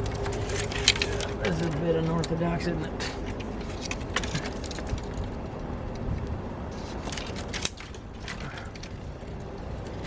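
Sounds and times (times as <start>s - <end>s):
leafy branches crackling and snapping: 0.0s - 10.0s
wind rumble on microphone: 0.0s - 10.0s.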